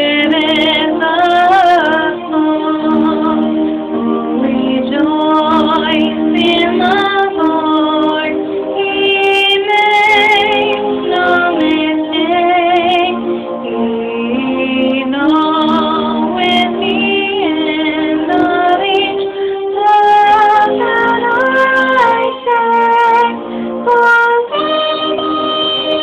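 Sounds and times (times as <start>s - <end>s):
piano accompaniment: 0.0s - 26.0s
woman singing a hymn: 0.0s - 26.0s.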